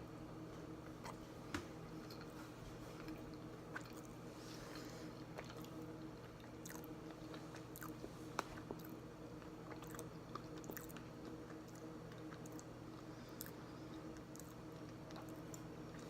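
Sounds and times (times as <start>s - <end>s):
small mouth clicks while chewing: 3.0s - 16.0s.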